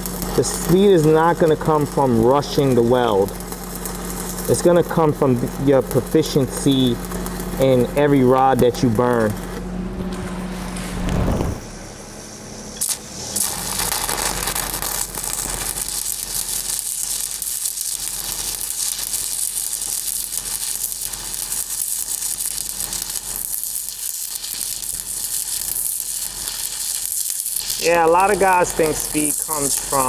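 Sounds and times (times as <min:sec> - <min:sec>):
welding arc crackling: 0:00.0 - 0:11.7, 0:12.8 - 0:30.0.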